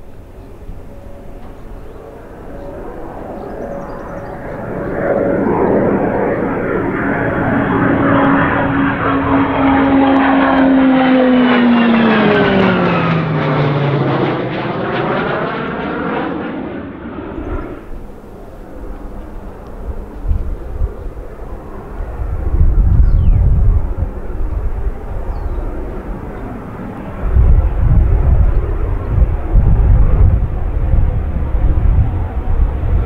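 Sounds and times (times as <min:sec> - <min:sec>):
propeller aircraft passing overhead: 0:00.0 - 0:33.0.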